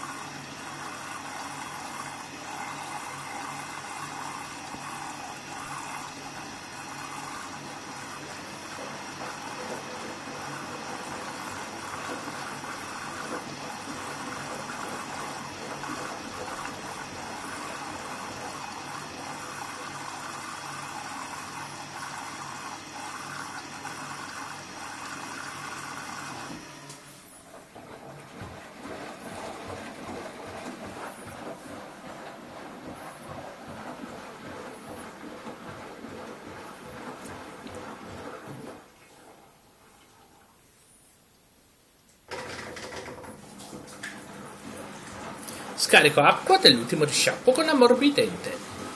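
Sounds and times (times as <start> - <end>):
washing machine water rushing: 0.0 - 40.6, 42.3 - 48.9
washing machine mechanical hum: 0.0 - 48.9.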